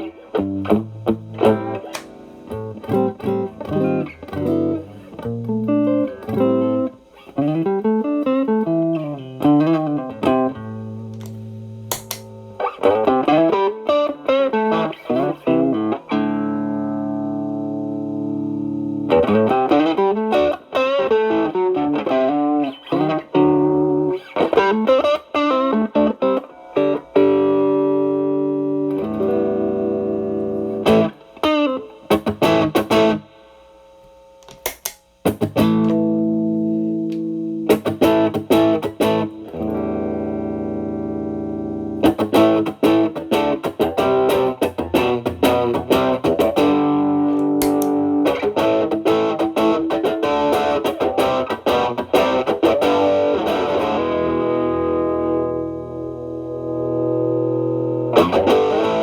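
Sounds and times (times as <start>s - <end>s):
overdriven electric guitar: 0.0s - 33.6s, 34.4s - 59.0s.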